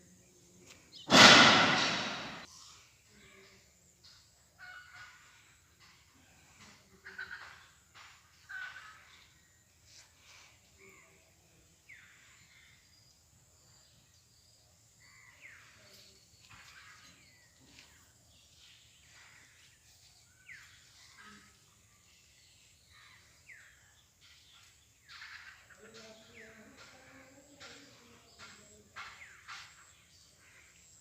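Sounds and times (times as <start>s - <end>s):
faint bird chirps: 2.4s - 7.7s, 8.3s - 31.0s.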